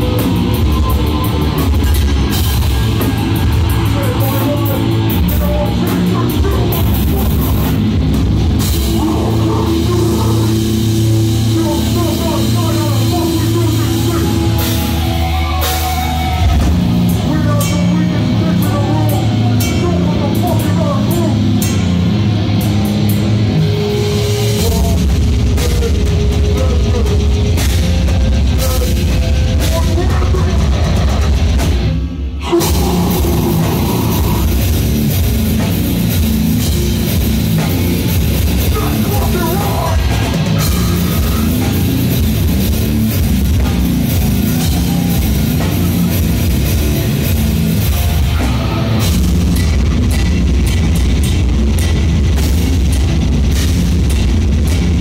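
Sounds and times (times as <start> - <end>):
live hardcore band playing: 0.0 - 55.0.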